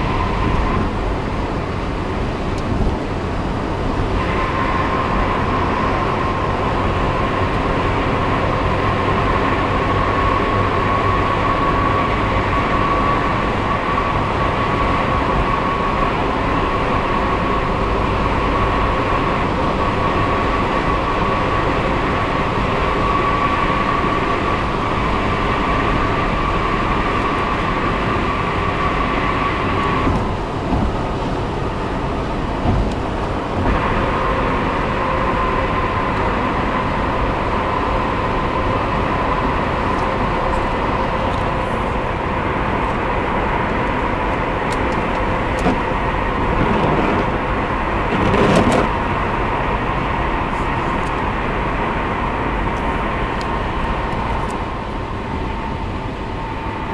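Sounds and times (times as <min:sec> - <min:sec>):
car road and engine noise: 0:00.0 - 0:56.9
high-pitched hum: 0:00.0 - 0:56.9.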